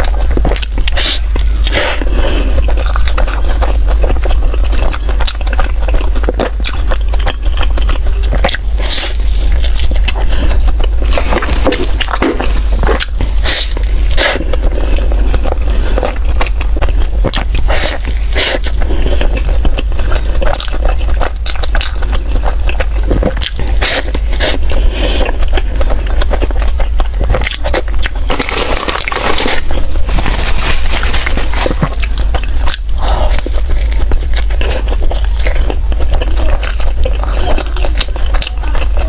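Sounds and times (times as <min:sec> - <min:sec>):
chewing crunchy bread: 0:00.0 - 0:39.0
steady low hum: 0:00.0 - 0:39.0.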